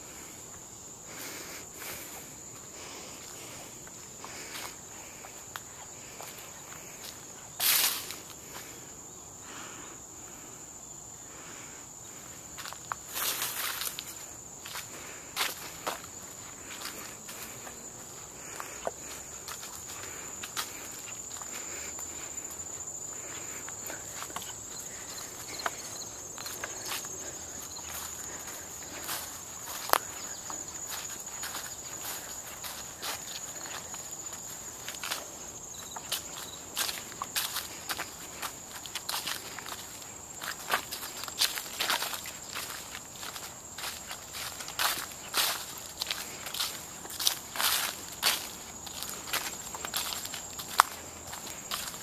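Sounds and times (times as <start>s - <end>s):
footsteps on woodland trail: 0.0s - 52.0s
insects droning: 0.0s - 52.0s.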